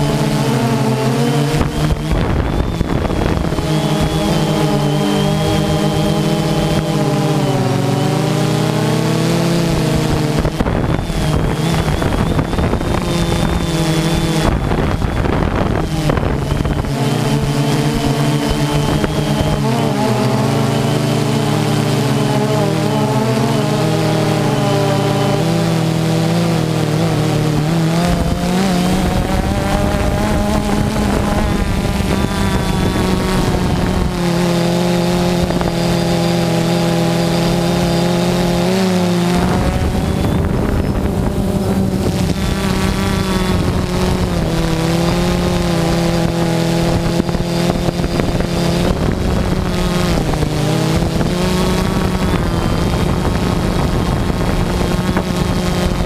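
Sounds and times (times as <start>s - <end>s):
drone propellers humming: 0.0s - 56.0s.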